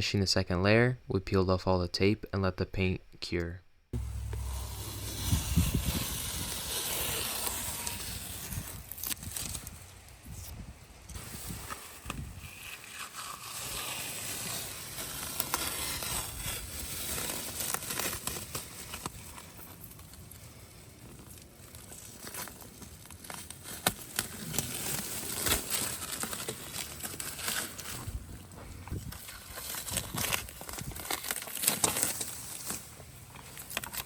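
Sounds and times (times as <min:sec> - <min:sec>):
tape and paper crinkling: 0:04.0 - 0:10.5, 0:11.1 - 0:34.0.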